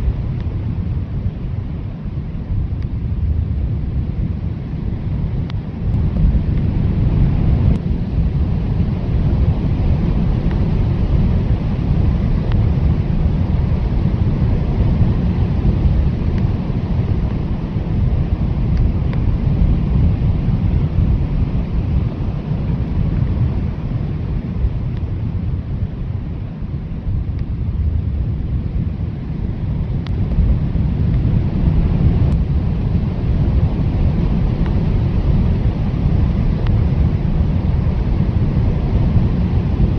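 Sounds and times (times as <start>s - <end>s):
blizzard wind gusting: 0.0s - 39.9s.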